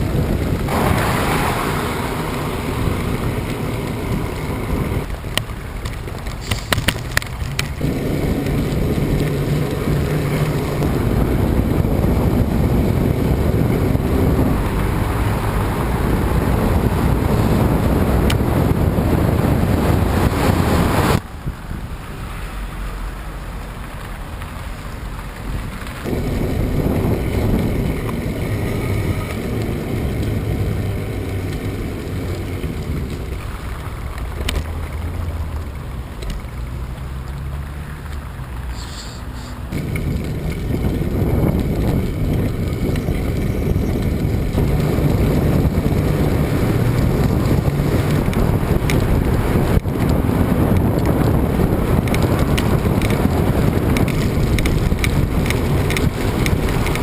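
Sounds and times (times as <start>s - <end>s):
wind buffeting microphone: 0.0s - 38.7s, 39.6s - 57.0s.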